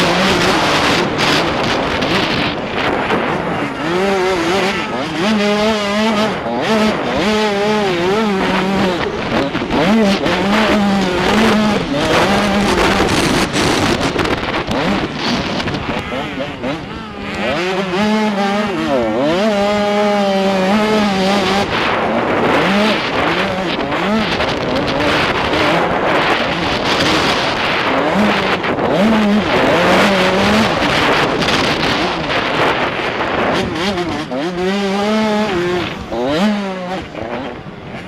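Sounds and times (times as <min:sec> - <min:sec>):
motocross bike engine revving: 0:00.0 - 0:38.0
wind rush: 0:00.0 - 0:38.0.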